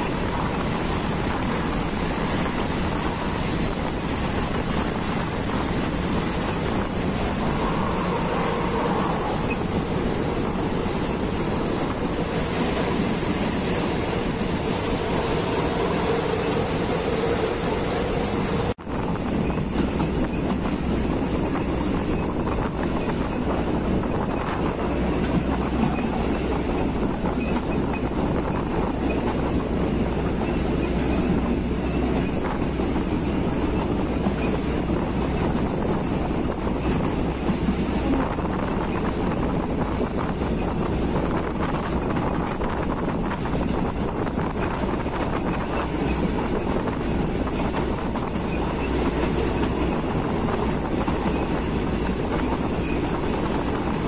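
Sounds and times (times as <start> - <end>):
moving train rumble: 0.0 - 54.0.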